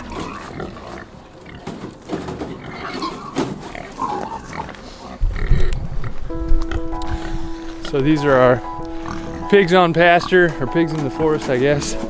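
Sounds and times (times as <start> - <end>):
hogs grunting: 0.0 - 12.0.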